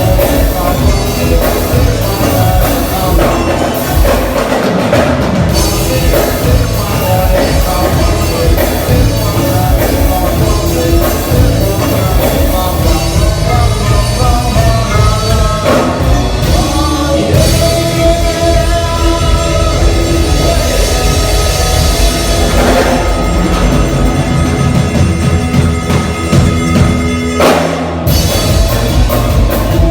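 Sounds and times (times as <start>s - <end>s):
band playing loud rock music: 0.0s - 29.9s
drum kit steady beat: 0.0s - 29.9s.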